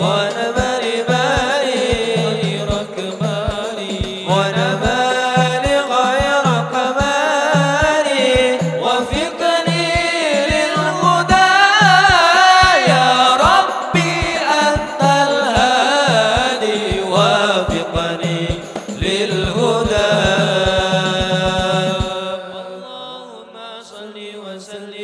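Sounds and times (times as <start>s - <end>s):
frame drums beating: 0.0s - 22.2s
person singing ornamented melody: 0.0s - 25.0s.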